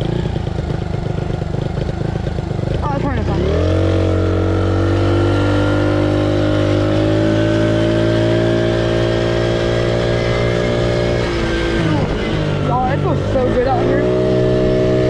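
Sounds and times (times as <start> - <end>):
atv engine running under throttle: 0.0 - 15.0.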